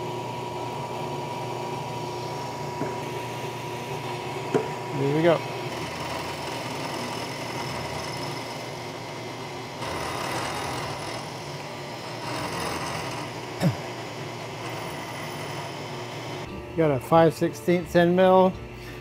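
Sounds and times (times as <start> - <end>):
milling machine cutting metal: 0.0 - 16.5.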